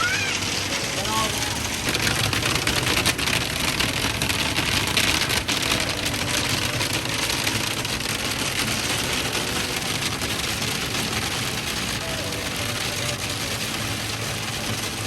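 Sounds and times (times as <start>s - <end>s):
hail clattering on van roof: 0.0s - 15.0s.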